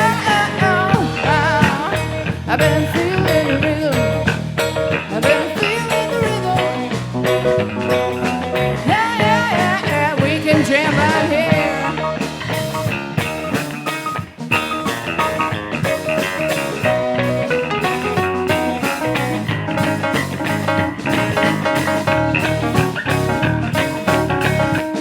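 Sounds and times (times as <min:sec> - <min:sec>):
drum kit beat: 0:00.0 - 0:25.0
guitar: 0:00.0 - 0:25.0.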